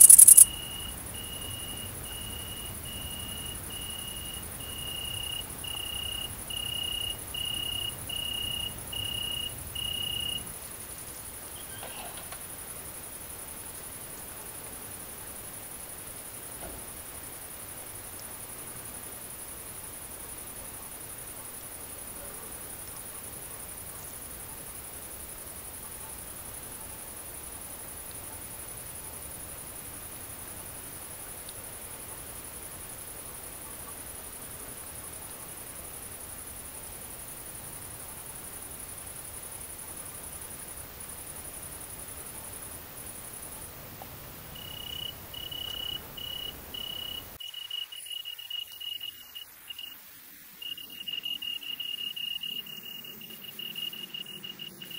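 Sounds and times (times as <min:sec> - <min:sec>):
bush-crickets trilling: 0:00.0 - 0:54.9.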